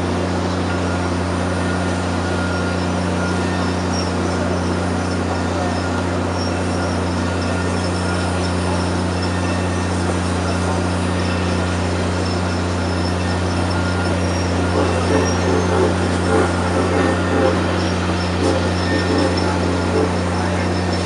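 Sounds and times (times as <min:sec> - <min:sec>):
train hum and rumble: 0:00.0 - 0:21.0.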